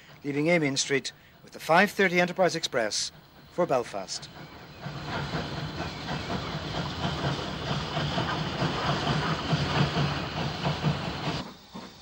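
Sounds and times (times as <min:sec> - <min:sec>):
steam hissing: 0:00.0 - 0:12.0
steam locomotive rumble: 0:00.0 - 0:12.0.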